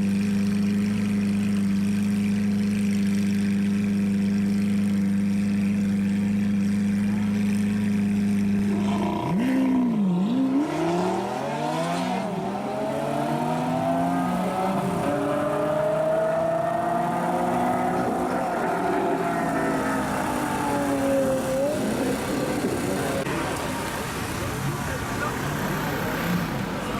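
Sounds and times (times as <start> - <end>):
sports car engine revving: 0.4 - 23.3.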